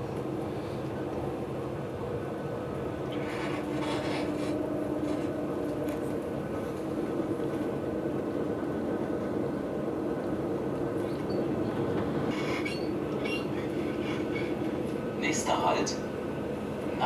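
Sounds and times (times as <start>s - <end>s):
train interior drone: 0.0s - 17.0s.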